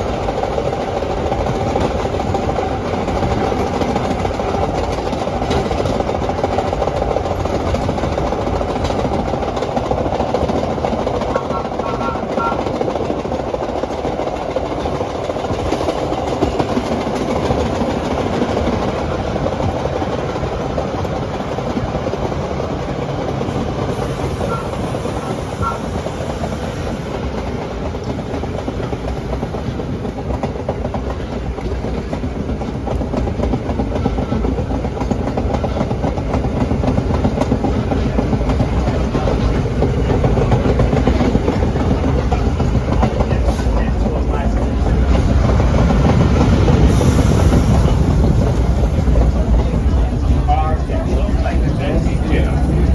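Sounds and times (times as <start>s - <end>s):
clickety-clack over rail joints: 0.0s - 52.9s
subway car wheels rumbling on rail: 0.0s - 52.9s.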